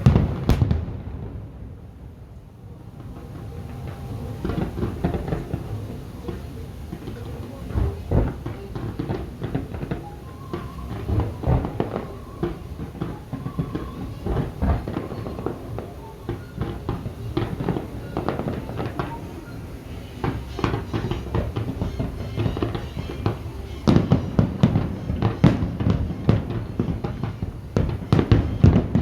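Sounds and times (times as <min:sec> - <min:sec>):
deep fireworks booms: 0:00.0 - 0:29.0
fireworks bangs and crackles: 0:00.0 - 0:29.0.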